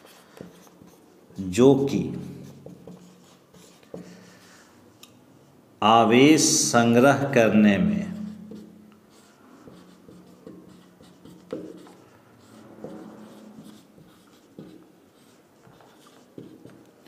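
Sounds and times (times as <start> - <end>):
marker pen scratching on whiteboard: 0.0 - 5.0, 7.8 - 17.0.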